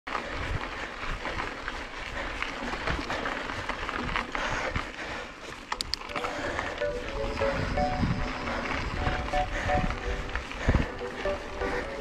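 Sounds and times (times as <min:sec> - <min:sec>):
bike clicks and rattles: 0:00.1 - 0:12.0
bike tyres rolling on dirt: 0:00.1 - 0:12.0.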